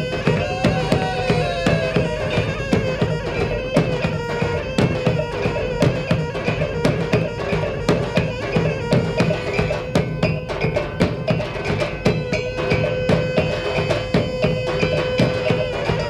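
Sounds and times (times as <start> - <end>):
driving drumming: 0.0 - 16.0.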